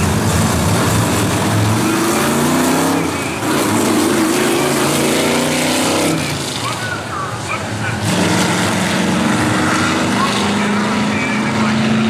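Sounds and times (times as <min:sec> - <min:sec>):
car engines accelerating: 0:00.0 - 0:12.0.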